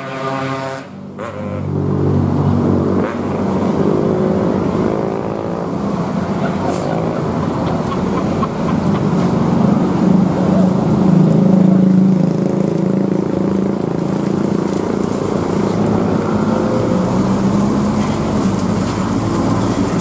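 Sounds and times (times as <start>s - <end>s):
bus diesel engine accelerating: 0.0s - 20.0s.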